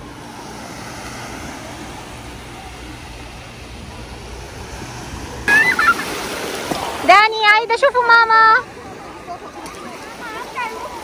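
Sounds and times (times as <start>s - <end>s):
sea surf washing on shore: 0.0s - 11.0s.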